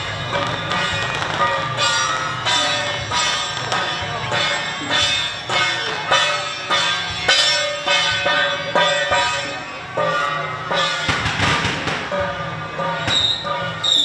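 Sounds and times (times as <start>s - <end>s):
procession drums and percussion: 0.0s - 14.0s
ringing pitched instrument lines: 0.0s - 14.0s.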